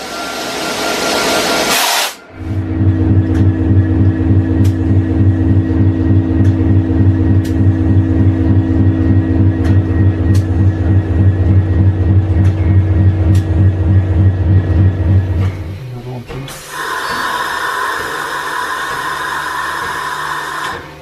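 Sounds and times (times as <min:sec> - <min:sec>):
diesel locomotive engine rumble: 0:00.0 - 0:21.0
steady hum: 0:00.0 - 0:21.0.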